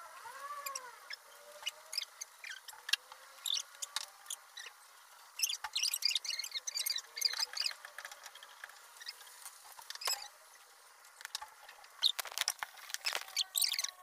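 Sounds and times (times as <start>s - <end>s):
sharp crackles and clicks: 0.4s - 14.0s.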